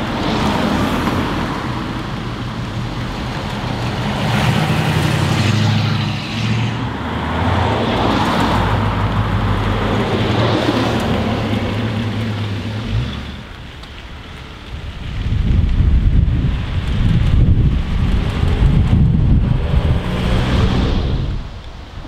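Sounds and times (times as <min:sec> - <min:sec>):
cars driving past slowly: 0:00.0 - 0:22.0
engine low rumble: 0:00.0 - 0:22.0.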